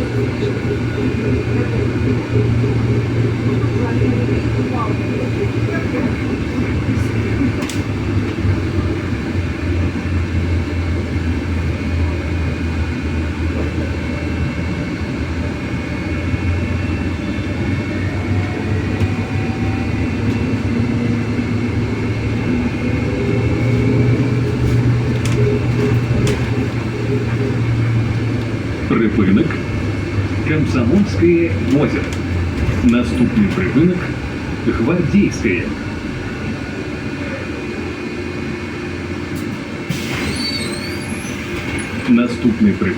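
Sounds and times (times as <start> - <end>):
bus cabin rumble with whine: 0.0 - 42.9.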